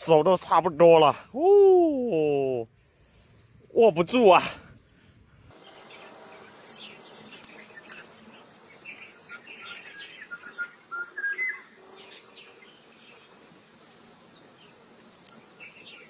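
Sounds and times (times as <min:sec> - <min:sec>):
birds chirping: 0:02.9 - 0:16.0.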